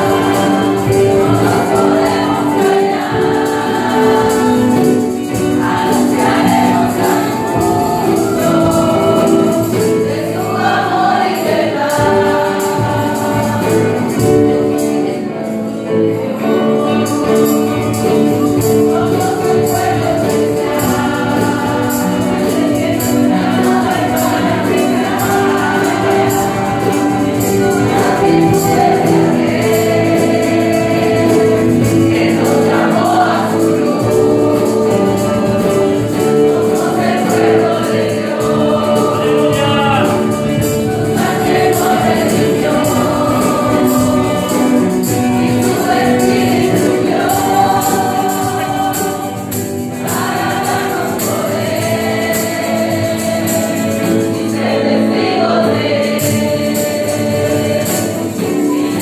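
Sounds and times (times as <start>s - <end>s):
instrumental backing: 0.0s - 59.0s
women's choir singing: 0.0s - 59.0s.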